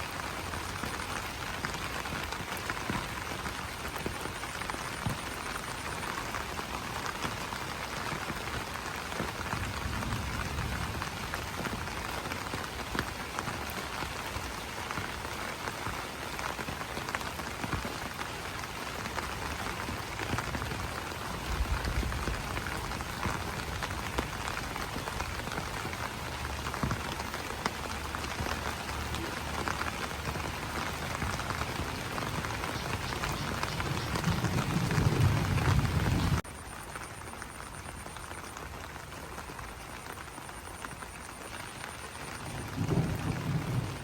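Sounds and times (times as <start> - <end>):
rain on broad leaves: 0.0 - 44.0.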